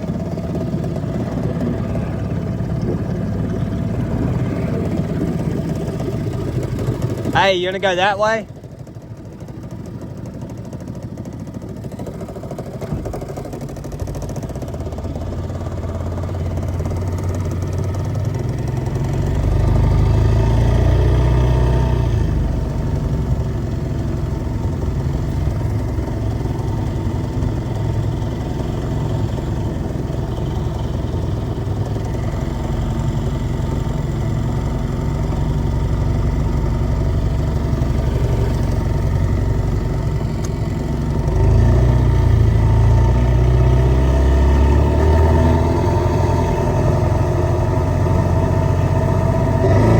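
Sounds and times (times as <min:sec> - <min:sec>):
small boat motor running: 0:00.0 - 0:49.9.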